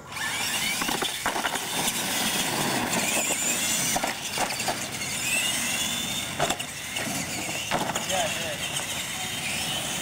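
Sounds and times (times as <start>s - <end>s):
toy truck motors whining: 0.0s - 10.0s.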